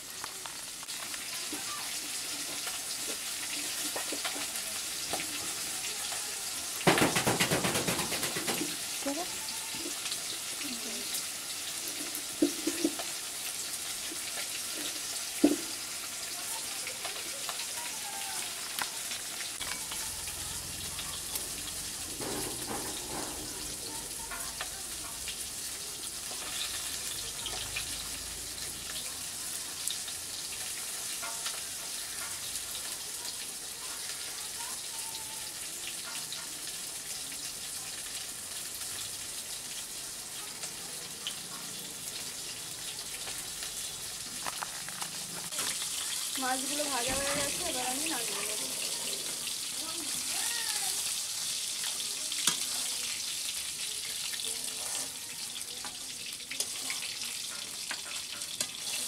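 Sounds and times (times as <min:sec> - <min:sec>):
fish sizzling in oil: 0:00.0 - 0:59.0.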